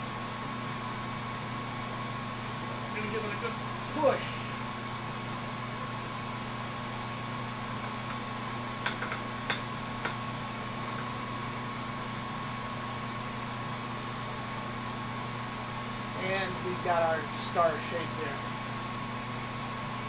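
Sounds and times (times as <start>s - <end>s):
glassworking torch hissing: 0.0s - 20.0s
ventilation hum: 0.0s - 20.0s.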